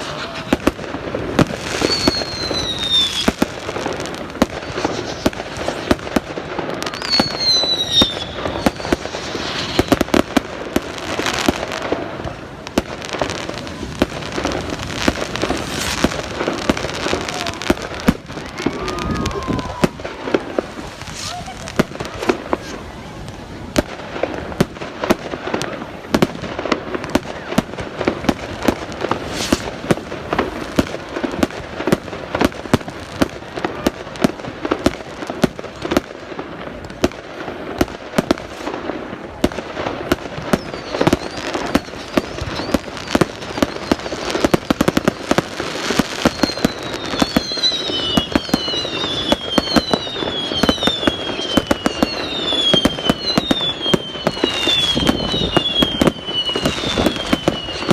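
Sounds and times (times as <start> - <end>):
crowd voices: 0.0 - 57.9
fireworks bangs and crackles: 0.0 - 57.9
whistling fireworks: 0.0 - 57.9.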